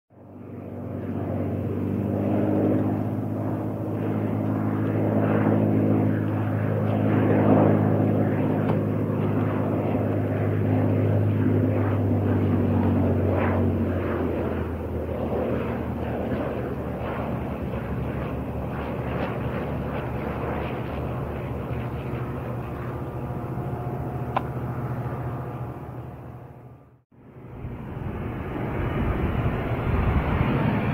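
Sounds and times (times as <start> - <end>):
propeller airplane engine drone: 0.1 - 30.9.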